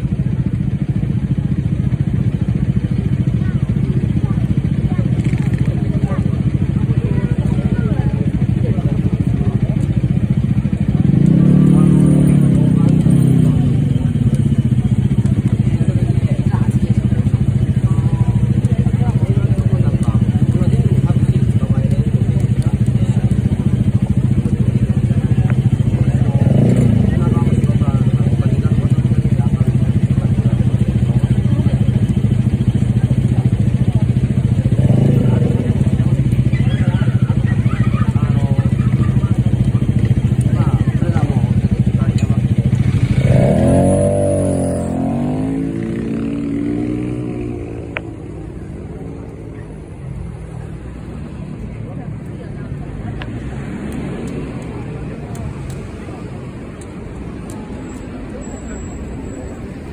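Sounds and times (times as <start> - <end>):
engine throbbing: 0.0 - 58.0
faint voices: 0.0 - 59.9.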